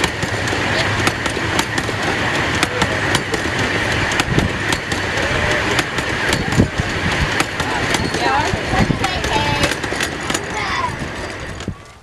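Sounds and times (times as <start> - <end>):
steam train rumbling along track: 0.0 - 12.0
wheel clicks over rail joints: 0.0 - 12.0.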